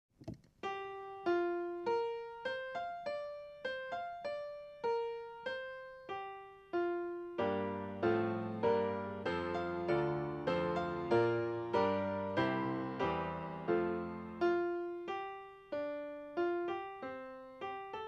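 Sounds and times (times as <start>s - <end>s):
keyboard melody: 0.6s - 18.0s.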